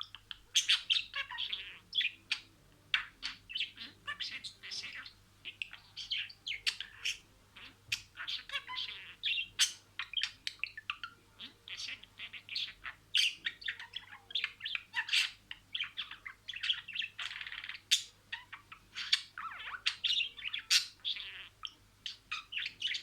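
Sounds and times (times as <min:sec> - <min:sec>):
budgerigar chattering: 0:00.0 - 0:23.0.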